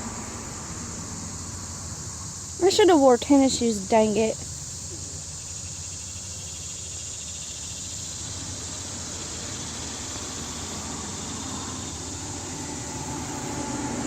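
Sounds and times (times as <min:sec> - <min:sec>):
even hiss: 0:00.0 - 0:14.0.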